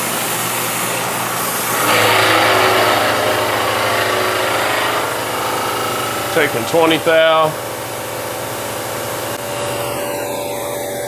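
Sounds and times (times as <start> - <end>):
cutter whine: 0.0 - 11.0
milling machine cutting steel: 0.0 - 11.0.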